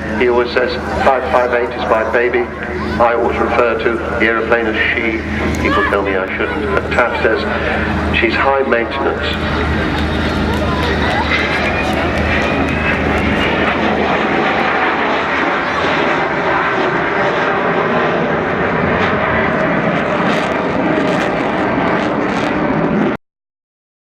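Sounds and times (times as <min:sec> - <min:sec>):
loud jet engine noise: 0:00.0 - 0:23.2.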